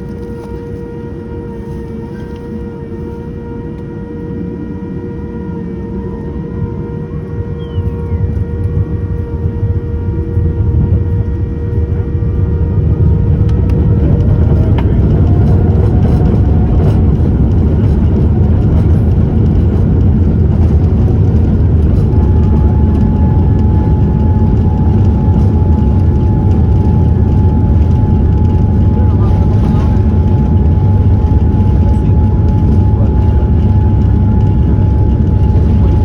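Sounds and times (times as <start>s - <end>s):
jet engines heard from cabin: 0.0s - 36.0s
rising engine whine: 0.0s - 36.0s
steady whine: 0.0s - 36.0s.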